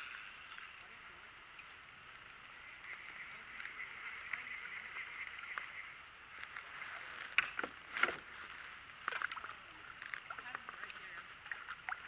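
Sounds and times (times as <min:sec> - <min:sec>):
water splashing against kayak: 0:01.5 - 0:12.0.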